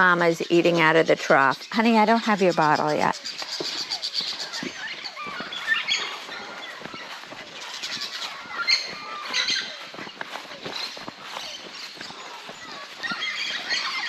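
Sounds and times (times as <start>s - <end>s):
birds chirping and whistling: 0.0s - 14.0s.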